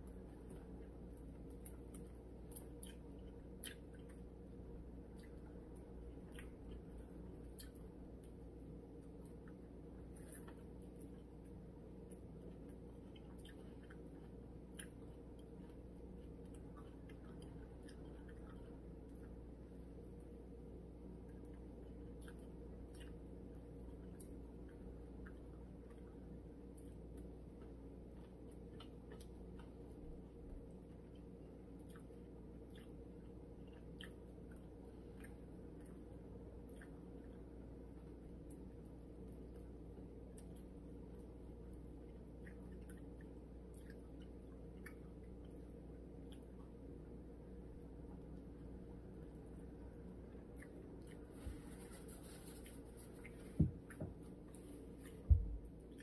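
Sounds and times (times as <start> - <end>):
quiet chewing mouth clicks: 0.0 - 20.4, 21.2 - 46.9, 48.1 - 56.0
low steady hum: 0.0 - 56.0.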